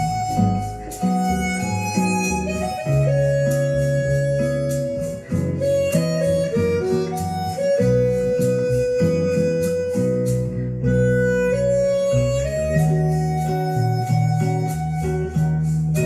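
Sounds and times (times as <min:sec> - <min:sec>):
harmonica slow melody: 0:00.0 - 0:16.0
plucked guitar: 0:00.0 - 0:16.0.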